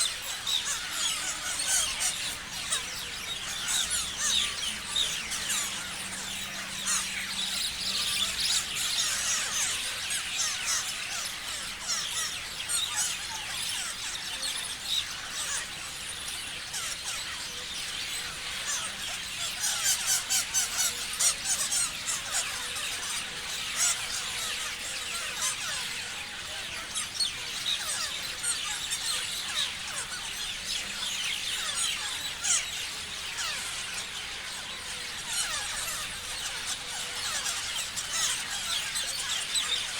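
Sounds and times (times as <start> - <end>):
parrots chirping and screeching: 0.0 - 39.9.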